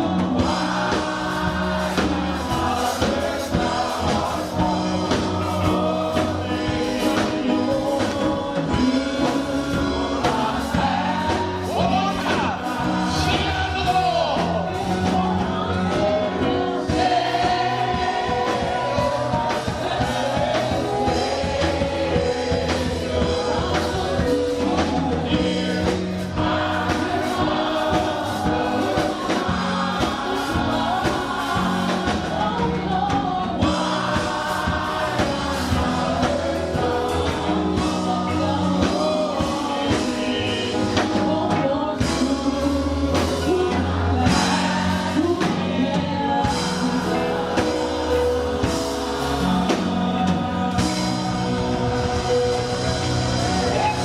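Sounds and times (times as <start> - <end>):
band with bass and drums: 0.0 - 54.0
choir singing gospel: 0.0 - 54.0.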